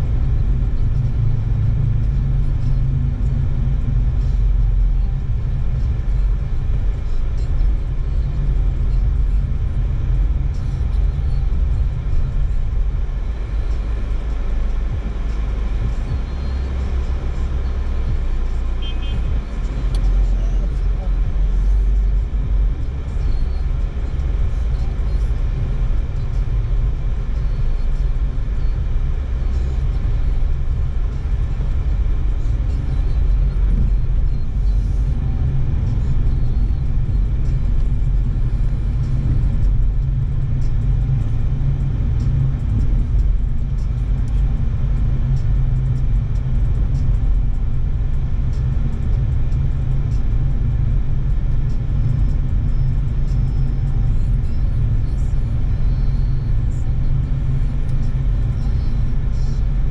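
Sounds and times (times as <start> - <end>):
car cabin engine and tyre rumble: 0.0 - 59.9.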